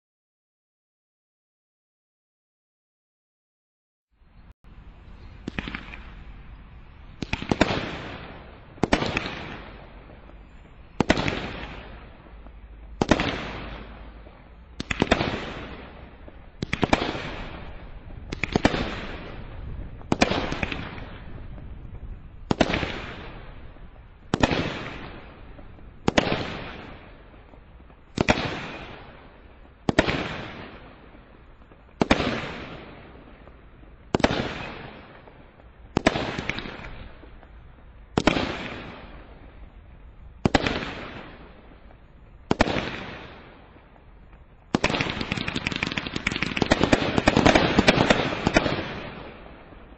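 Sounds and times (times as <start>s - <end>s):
firework bangs with crackle: 5.4s - 6.2s, 7.2s - 39.6s, 40.4s - 49.9s
dense firework crackle: 5.4s - 49.9s.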